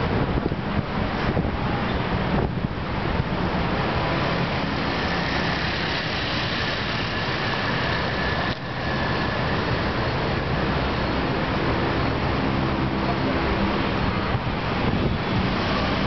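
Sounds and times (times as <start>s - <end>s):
cars passing: 0.0s - 16.0s
motorcycles passing: 1.7s - 16.0s.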